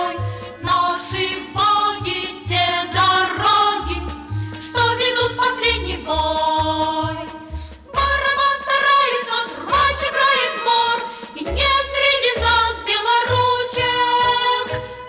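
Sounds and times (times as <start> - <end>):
pop song: 0.0 - 15.0.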